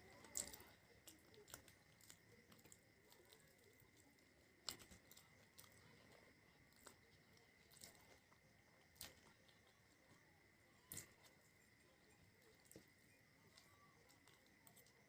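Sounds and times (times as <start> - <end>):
faint chewing of food: 0.0 - 15.0.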